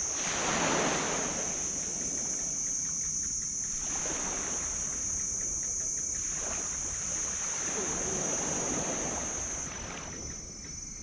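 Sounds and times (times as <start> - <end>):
small waves washing on sand: 0.0 - 2.9, 3.6 - 10.5
high-pitched hiss: 0.0 - 11.0.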